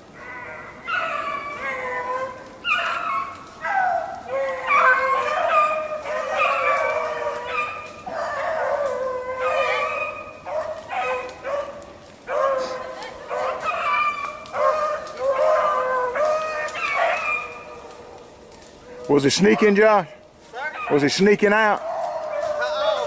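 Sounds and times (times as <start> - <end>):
hounds baying: 0.0 - 23.0.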